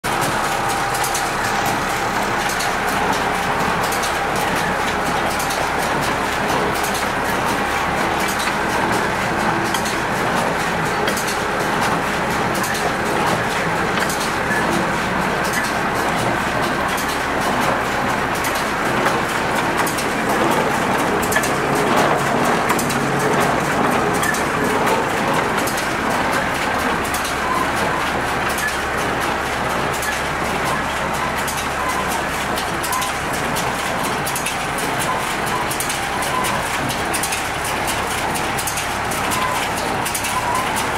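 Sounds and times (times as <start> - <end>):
baler running with clatter: 0.0 - 40.9
tractor engine humming: 0.0 - 40.9.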